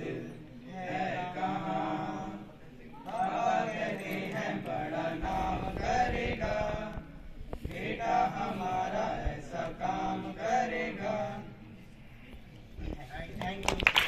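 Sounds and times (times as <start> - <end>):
boys singing in unison: 0.0 - 11.8.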